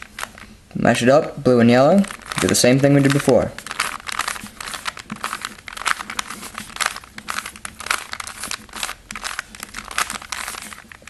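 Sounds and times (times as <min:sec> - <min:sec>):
puzzle cube clicking as turned: 0:02.1 - 0:11.0.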